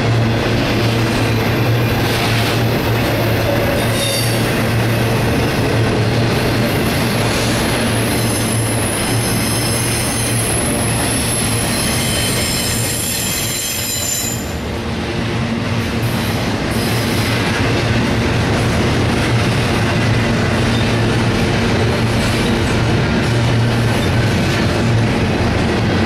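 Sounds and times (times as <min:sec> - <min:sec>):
steel wheels rumbling on rails: 0:00.0 - 0:26.0.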